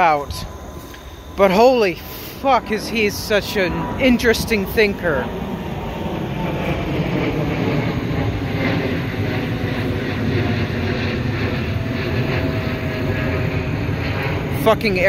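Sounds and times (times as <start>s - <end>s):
airplane engine rumble: 0.0s - 15.0s.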